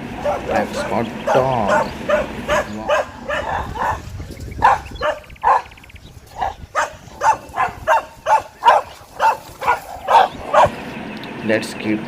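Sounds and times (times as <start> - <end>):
dog barking: 0.1 - 10.8.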